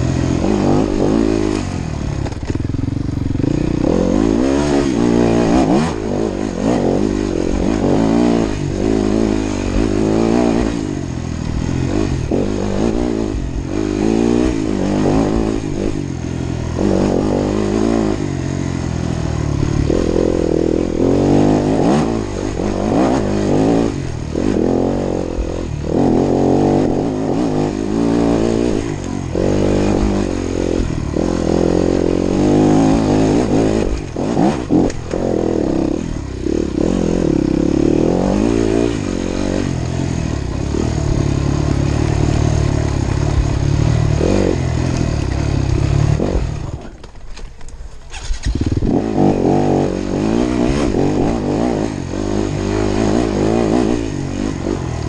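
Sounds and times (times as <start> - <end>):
dirt bike engine revving: 0.0 - 47.0, 48.1 - 55.0.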